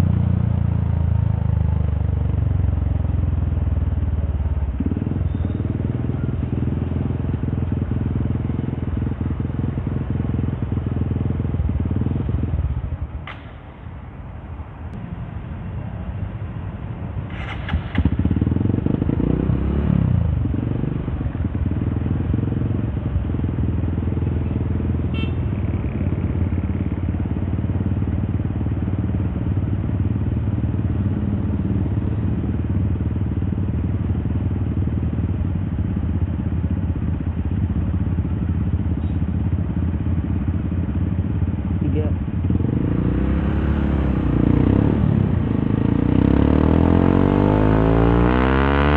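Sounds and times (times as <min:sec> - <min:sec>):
motorcycle engine running: 0:00.0 - 0:13.2, 0:16.1 - 0:48.9.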